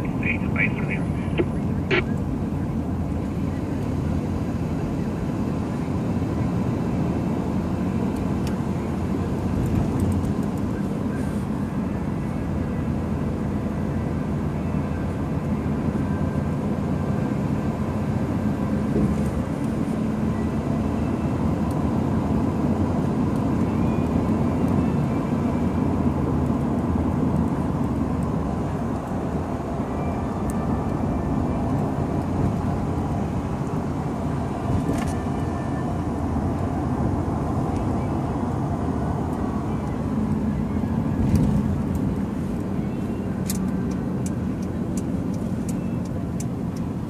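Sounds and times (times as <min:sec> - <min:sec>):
car road and engine noise: 0:00.0 - 0:47.0.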